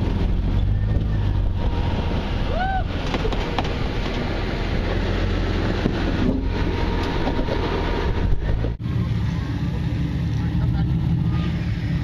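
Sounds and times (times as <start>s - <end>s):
engine running slowly: 0.0s - 12.0s.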